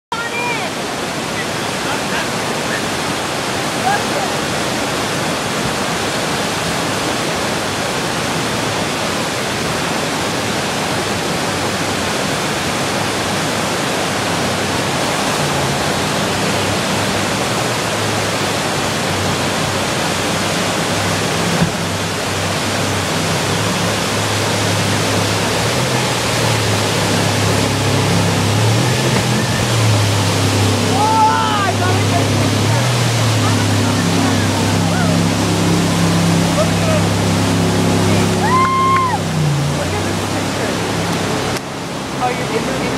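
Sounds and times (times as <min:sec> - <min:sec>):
jet boat engine drone: 0:00.1 - 0:42.9
whitewater rapids roaring: 0:00.1 - 0:42.9.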